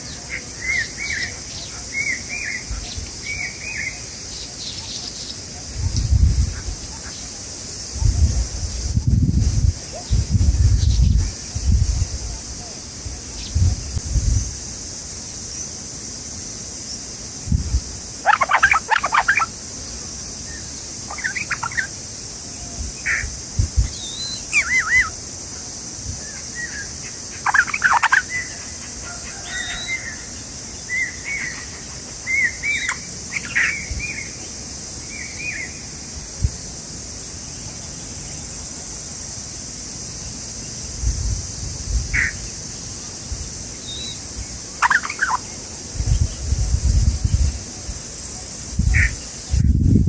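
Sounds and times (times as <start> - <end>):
small birds chirping: 0.0 - 14.6, 18.2 - 36.0, 42.0 - 49.7
steady high hiss: 0.0 - 50.0.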